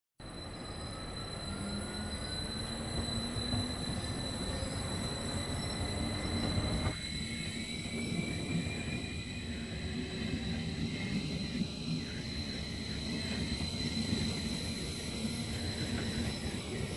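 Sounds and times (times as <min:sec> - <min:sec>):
train wheels rumbling on rails: 0:00.2 - 0:16.9.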